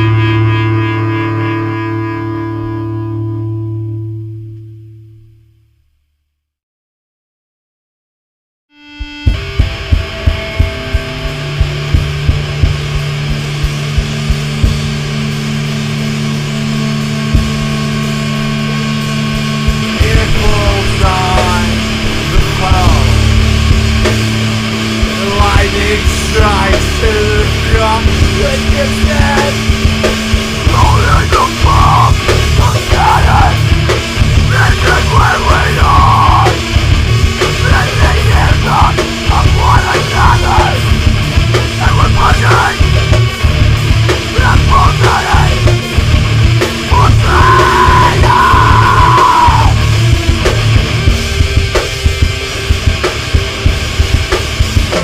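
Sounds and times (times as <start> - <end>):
metal band with distorted guitars: 0.0 - 4.9, 8.8 - 55.0.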